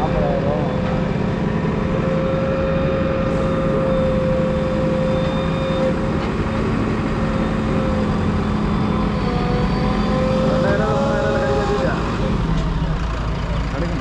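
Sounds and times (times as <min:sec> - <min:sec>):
steady whine: 0:00.0 - 0:13.2
diesel engine rumbling: 0:00.0 - 0:14.0.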